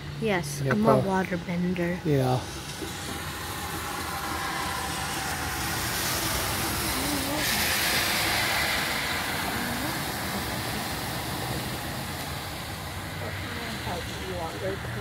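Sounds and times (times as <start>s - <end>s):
car driving through floodwater: 0.0s - 15.0s.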